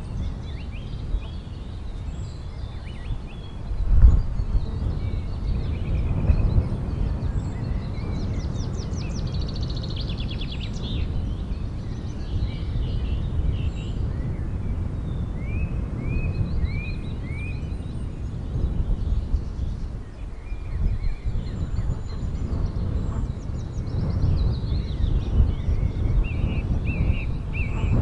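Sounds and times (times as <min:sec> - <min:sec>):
small birds calling: 0:00.0 - 0:28.0.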